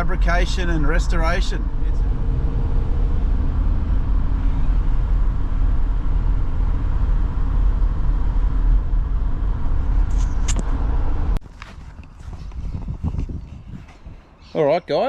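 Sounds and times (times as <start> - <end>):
vehicle driving on road: 0.0 - 14.3.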